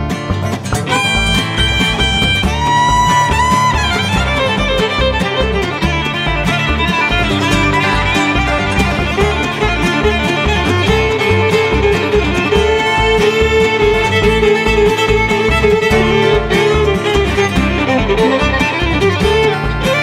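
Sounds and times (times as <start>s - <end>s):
fiddle melody: 0.0s - 20.0s
picked acoustic guitar: 0.0s - 20.0s
low bass pulse: 0.3s - 20.0s.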